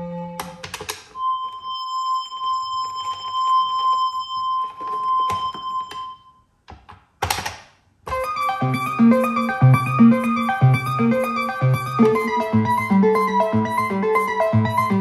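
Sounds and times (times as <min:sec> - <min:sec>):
synthesizer beep tone: 0:01.2 - 0:06.3, 0:08.1 - 0:15.0.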